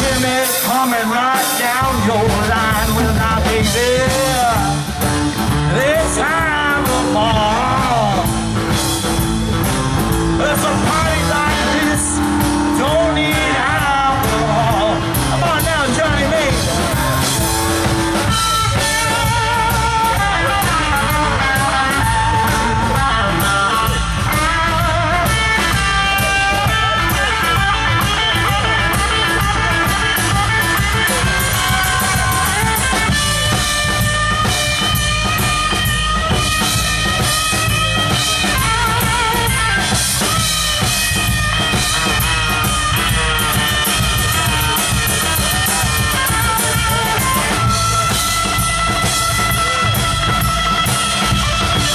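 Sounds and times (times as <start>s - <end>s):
bass: 0.0s - 51.9s
drum kit beat: 0.0s - 51.9s
electric guitars: 0.0s - 51.9s.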